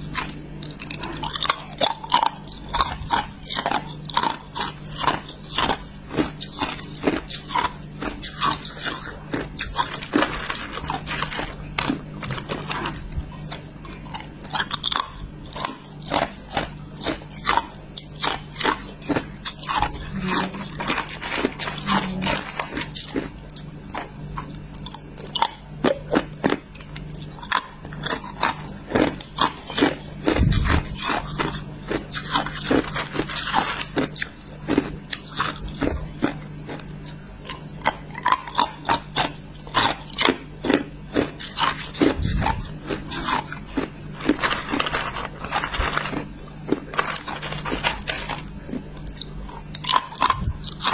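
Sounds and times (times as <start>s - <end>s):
person chewing ice: 0.0s - 50.9s.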